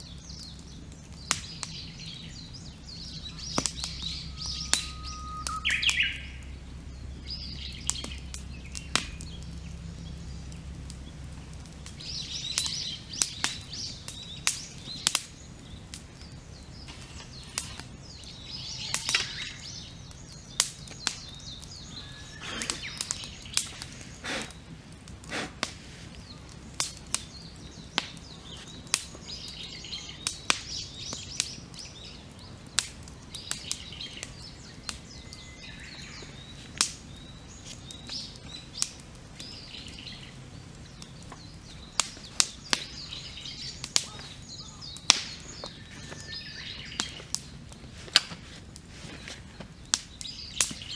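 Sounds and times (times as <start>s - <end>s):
birds singing: 0.0s - 50.9s
campfire crackling and popping: 0.0s - 50.9s.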